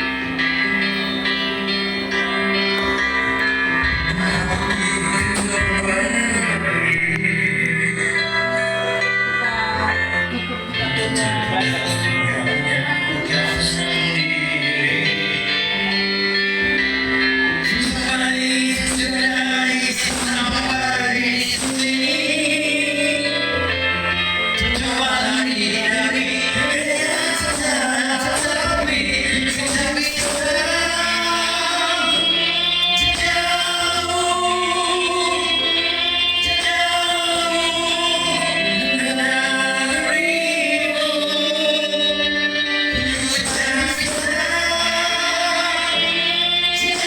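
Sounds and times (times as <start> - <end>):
low bass notes: 0.0 - 47.0.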